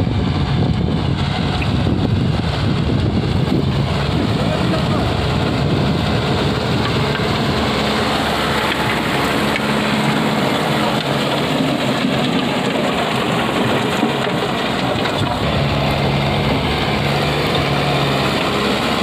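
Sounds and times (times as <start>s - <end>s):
tractor diesel engine drone: 0.0s - 19.0s
rotary tiller churning: 0.1s - 19.0s.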